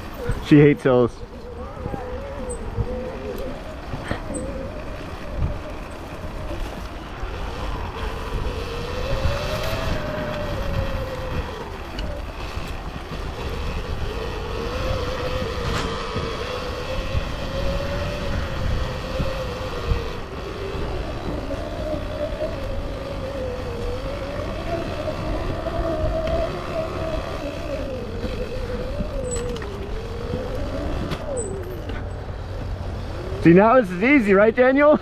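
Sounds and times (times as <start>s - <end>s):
motorbike engine revving: 0.0s - 35.0s
wind rumble: 0.0s - 35.0s.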